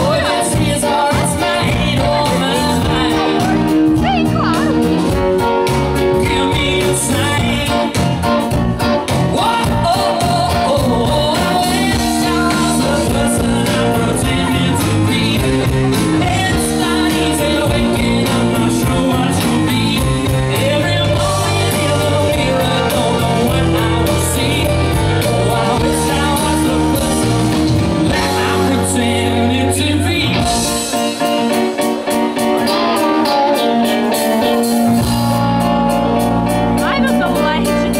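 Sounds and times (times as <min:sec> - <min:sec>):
live rock band playing: 0:00.0 - 0:37.9
man singing lead vocal: 0:00.0 - 0:37.9.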